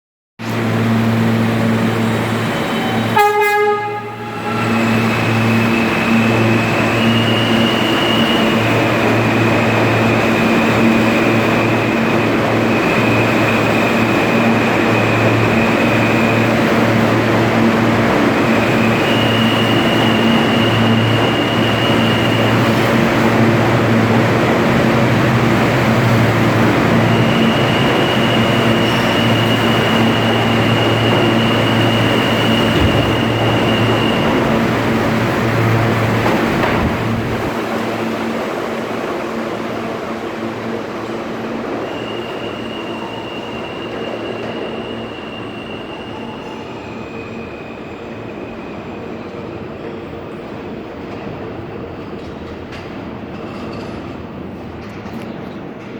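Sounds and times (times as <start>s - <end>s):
subway train rumble: 0.4s - 55.9s.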